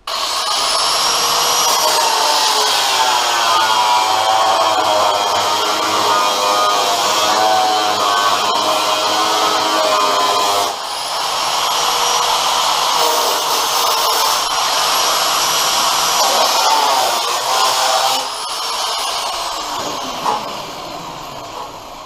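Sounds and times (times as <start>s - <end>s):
power tool cutting sheet metal: 0.0s - 22.0s.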